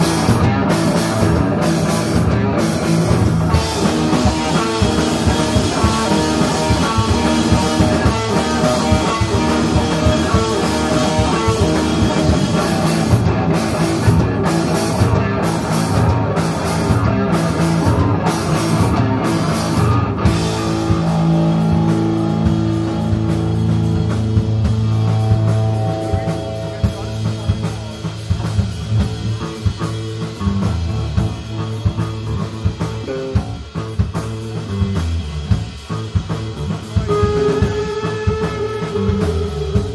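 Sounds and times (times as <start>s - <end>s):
live rock band instrumental: 0.0s - 39.9s.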